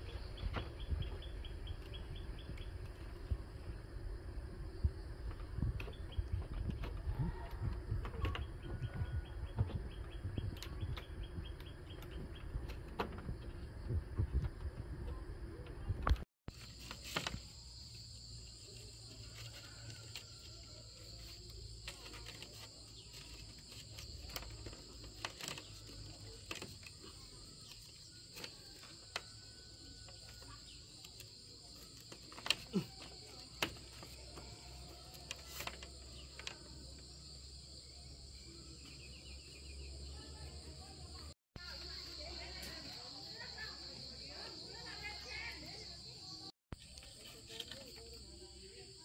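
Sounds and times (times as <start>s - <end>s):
crickets chirping: 0.0s - 49.0s.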